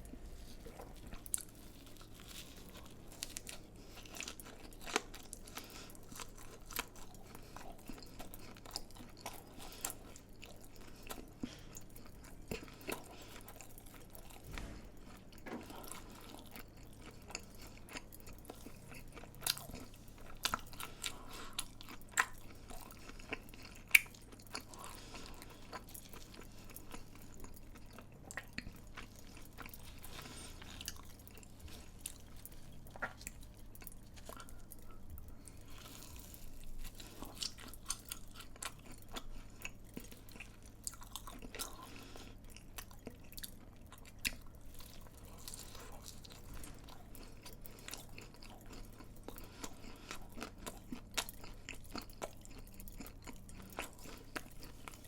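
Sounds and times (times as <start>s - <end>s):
chewing crunchy fried food: 0.0s - 55.0s.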